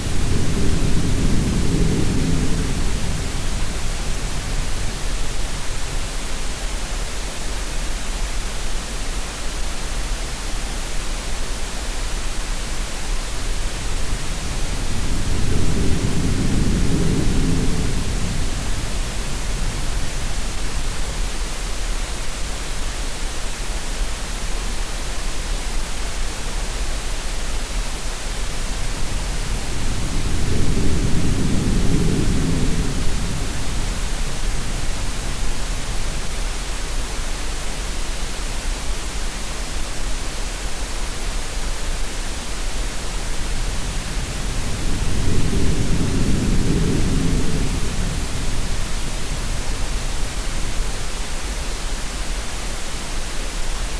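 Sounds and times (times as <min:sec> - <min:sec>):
steady noise hiss: 0:00.0 - 0:53.9.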